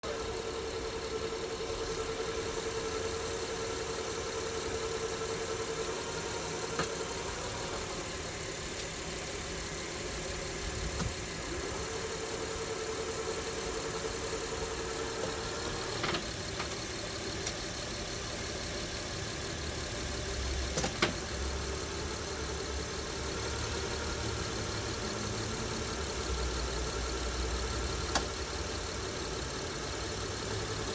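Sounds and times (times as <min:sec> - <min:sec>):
car engine idling: 0:00.0 - 0:30.9
steady whine: 0:00.0 - 0:30.9.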